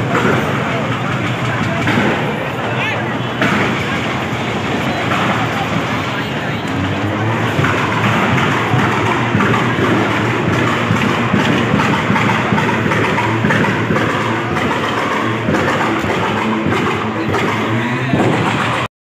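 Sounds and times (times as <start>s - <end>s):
car engines running: 0.0s - 18.9s.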